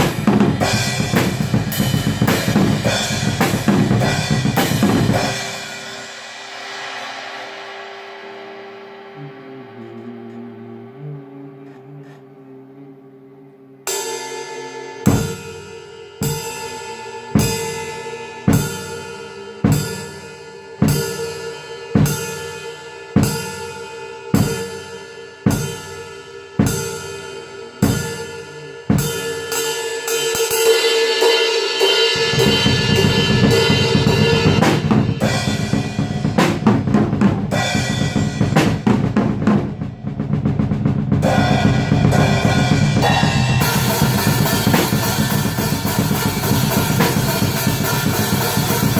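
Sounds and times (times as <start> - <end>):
black metal music: 0.0 - 24.8, 26.7 - 48.9.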